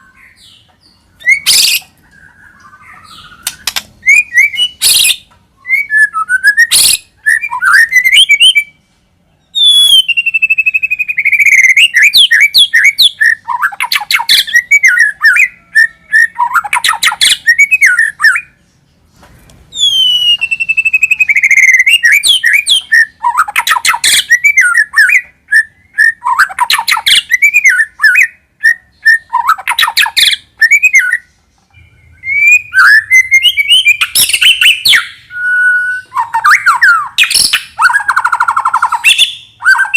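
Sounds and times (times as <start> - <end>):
bird singing whistles and chatter: 1.2 - 8.8, 9.6 - 18.6, 19.7 - 39.9.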